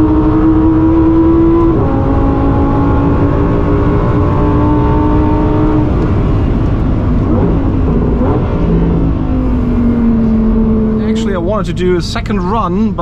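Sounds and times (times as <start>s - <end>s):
sports car engine slowing down: 0.0s - 13.0s.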